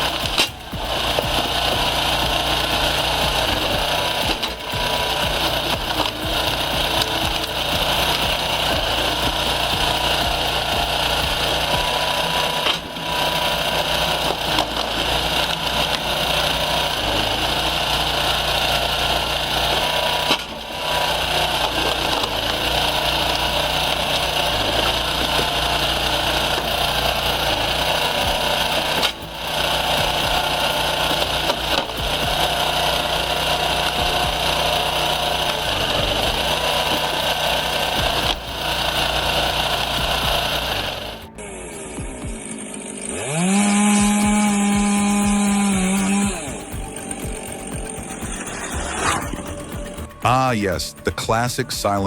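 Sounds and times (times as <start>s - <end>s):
power tool running: 0.0s - 52.0s.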